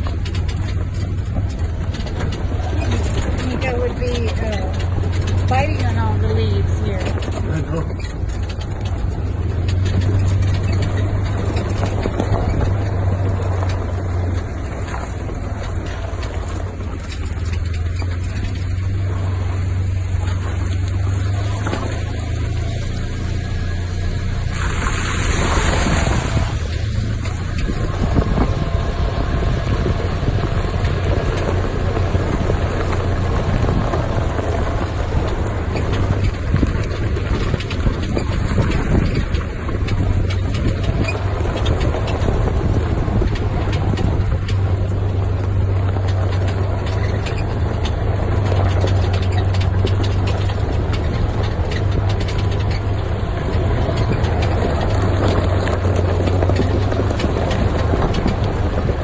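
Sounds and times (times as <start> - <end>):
knocks and rattles: 0.0 - 59.0
off-road vehicle engine droning: 0.0 - 59.0.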